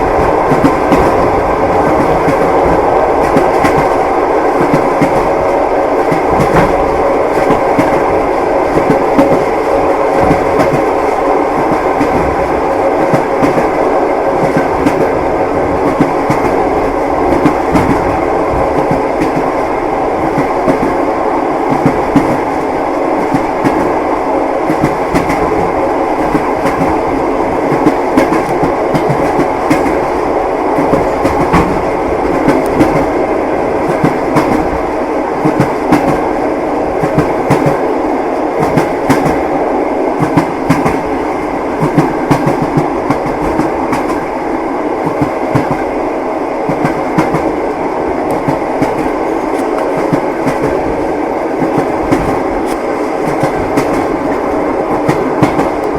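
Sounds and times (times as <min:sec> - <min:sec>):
train wheels clacking: 0:00.0 - 0:15.2, 0:15.8 - 0:19.6, 0:21.6 - 0:24.0, 0:24.6 - 0:30.2, 0:30.8 - 0:33.2, 0:33.8 - 0:36.3, 0:37.0 - 0:37.8, 0:38.6 - 0:39.5, 0:40.2 - 0:41.1, 0:41.8 - 0:44.3, 0:45.0 - 0:45.9, 0:46.7 - 0:47.6, 0:48.2 - 0:51.0, 0:51.6 - 0:55.9
train running rumble: 0:00.0 - 0:55.9.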